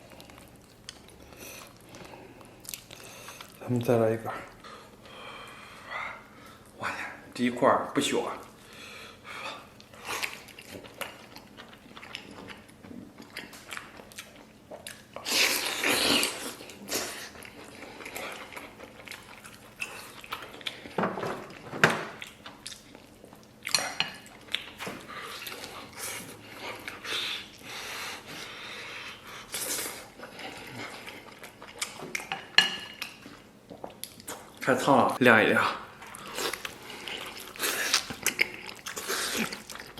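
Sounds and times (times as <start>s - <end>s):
wet chewing and smacking: 0.0s - 3.6s, 9.6s - 34.6s, 36.0s - 39.9s.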